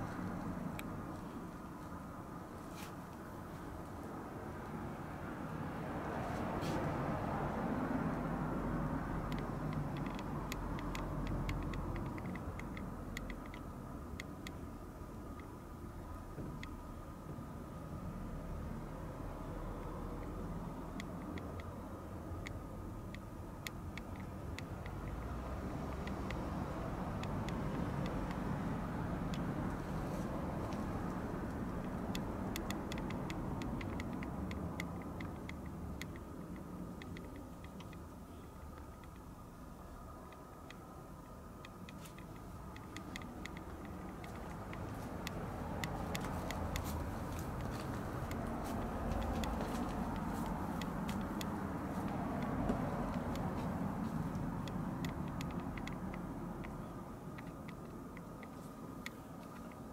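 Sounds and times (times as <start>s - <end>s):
faint steady hum: 0.0s - 59.9s
vehicle passing rumble: 0.0s - 59.9s
light clicks and ticks: 9.1s - 17.5s, 19.4s - 59.9s.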